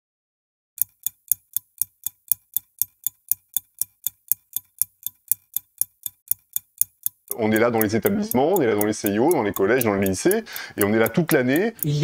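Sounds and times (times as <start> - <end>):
clock ticking: 0.8 - 12.0.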